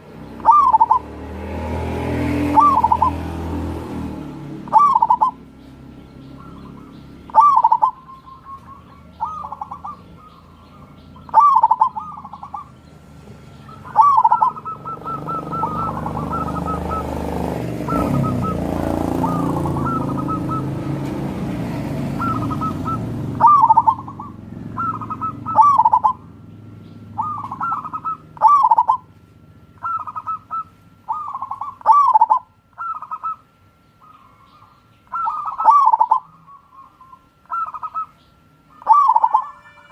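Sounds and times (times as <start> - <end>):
doves cooing: 0.0 - 29.2, 29.8 - 39.9.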